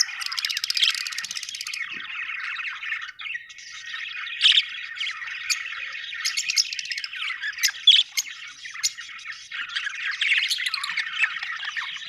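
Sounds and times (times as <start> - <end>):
budgerigars chattering and warbling: 0.0 - 12.0
sharp chirps and squawks: 0.0 - 12.0.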